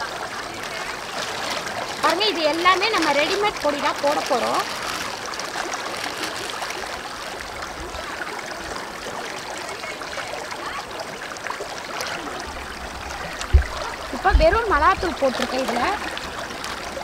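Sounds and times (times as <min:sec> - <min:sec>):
river water flowing around rocks: 0:00.0 - 0:17.0.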